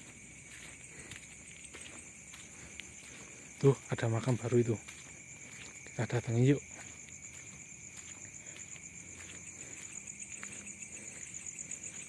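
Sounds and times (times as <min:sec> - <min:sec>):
high rapid cricket trill: 0:00.0 - 0:12.0
low continuous insect chirring: 0:00.0 - 0:12.0.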